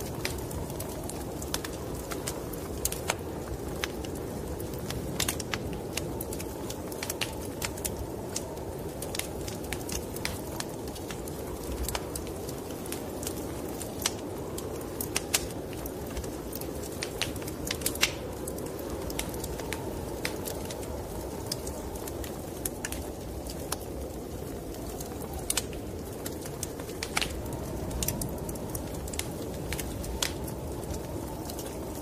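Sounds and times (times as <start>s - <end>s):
sharp pops of fire: 0.0s - 20.8s, 24.9s - 31.8s
snowstorm wind rushing: 0.0s - 32.0s
wood fire crackling: 0.0s - 32.0s.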